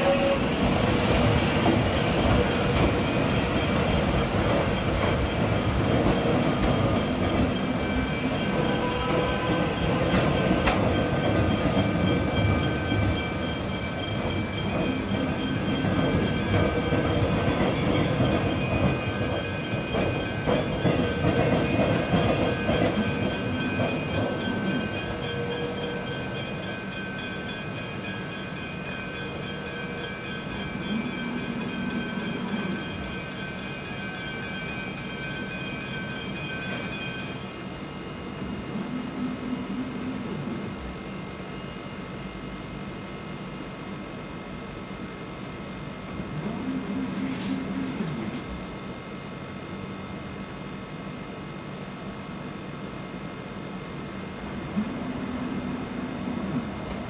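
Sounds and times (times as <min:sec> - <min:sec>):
train wheels on rails: 0:00.0 - 0:41.6, 0:46.0 - 0:48.9, 0:53.1 - 0:57.0
electric train whine: 0:00.0 - 0:57.0.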